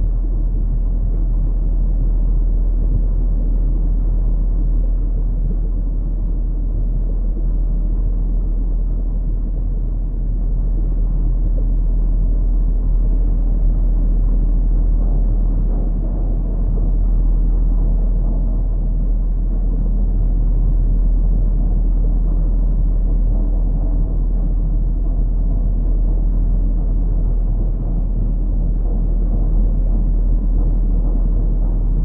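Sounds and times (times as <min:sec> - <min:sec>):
dense low rumble: 0:00.0 - 0:32.0.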